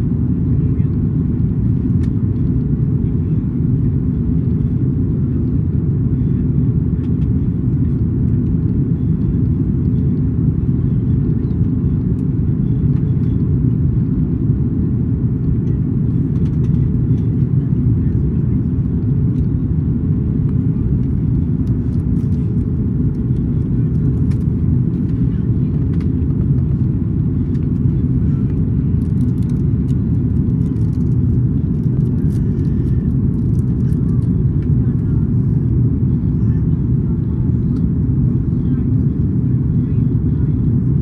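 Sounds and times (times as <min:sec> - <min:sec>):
aircraft cabin engine rumble: 0:00.0 - 0:41.0.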